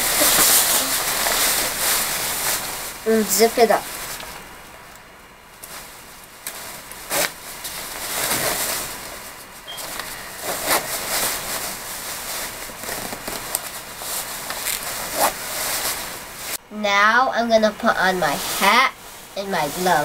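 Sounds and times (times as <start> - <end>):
jacket fabric rustling: 0.0 - 16.6, 17.6 - 20.0.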